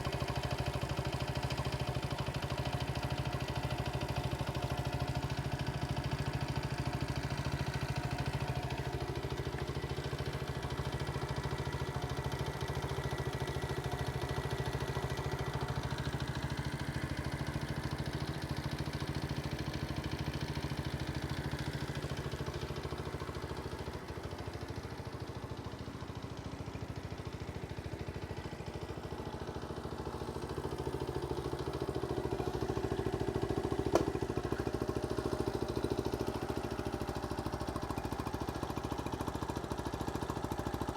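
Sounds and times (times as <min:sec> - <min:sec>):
small engine idling: 0:00.0 - 0:40.9.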